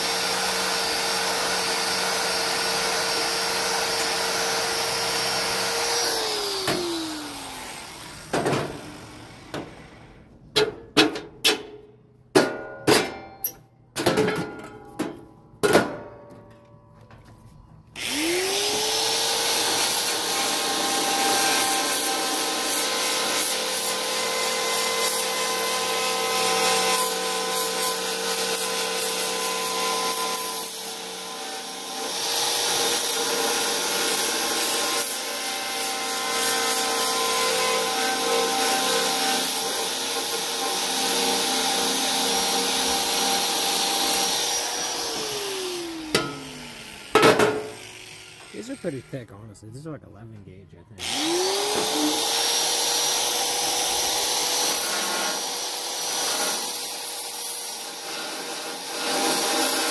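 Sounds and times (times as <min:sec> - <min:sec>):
power tool grinding metal: 0:00.0 - 0:10.3, 0:18.0 - 0:49.3, 0:51.0 - 0:59.9.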